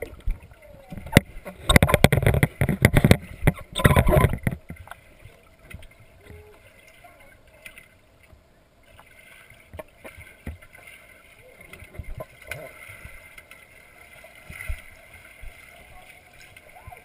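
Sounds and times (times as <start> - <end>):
small water drips: 0.0 - 17.0
water splashing and sloshing: 0.0 - 17.0.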